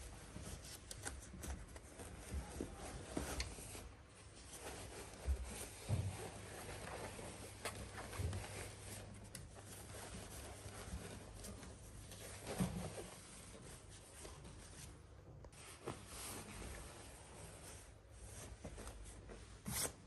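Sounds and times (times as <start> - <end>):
denim rustling: 0.0 - 20.0.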